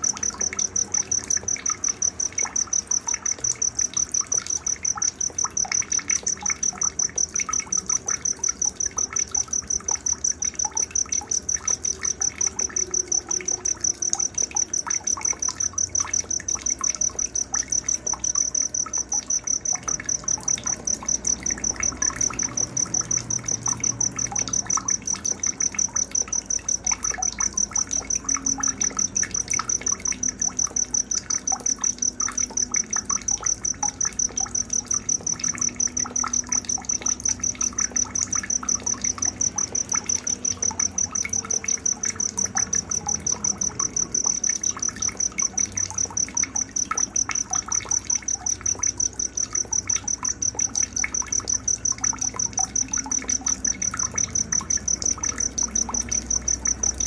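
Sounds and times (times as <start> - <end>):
cricket chirping: 0.0 - 57.0
water trickling: 0.0 - 57.0.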